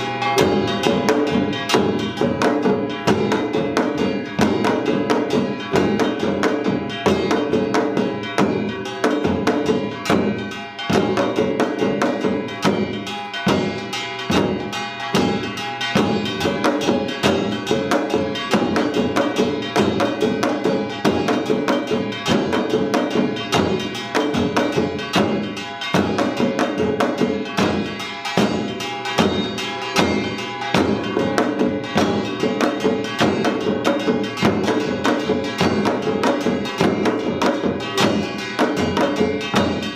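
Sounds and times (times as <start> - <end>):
clanging metal gongs: 0.0 - 39.9
drums beaten rapidly: 0.0 - 39.9.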